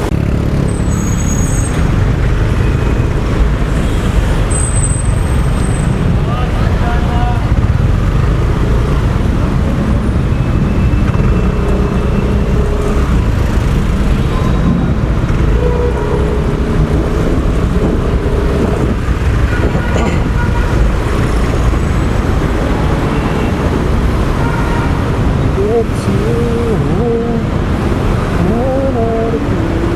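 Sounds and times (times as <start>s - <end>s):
road traffic: 0.0s - 29.9s.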